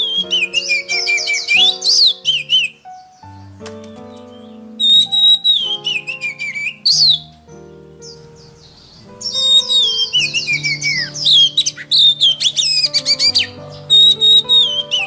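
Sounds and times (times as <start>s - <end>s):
background music: 0.0s - 15.0s
songbird singing: 0.0s - 15.0s.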